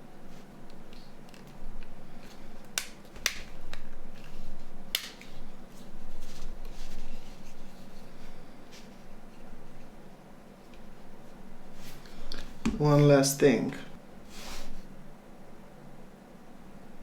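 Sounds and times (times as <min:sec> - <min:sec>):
rubbing and handling noise: 0:00.0 - 0:13.6, 0:14.2 - 0:15.0.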